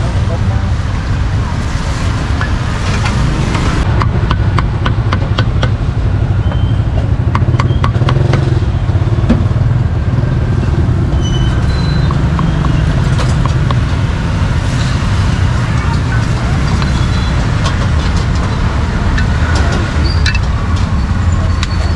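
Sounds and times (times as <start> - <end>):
low rumble of street traffic: 0.0 - 21.9.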